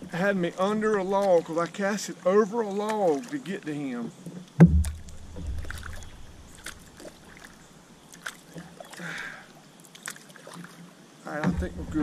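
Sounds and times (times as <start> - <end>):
paddle knocking canoe hull: 0.0 - 9.0, 10.4 - 12.0
paddle stroke splash: 0.0 - 12.0.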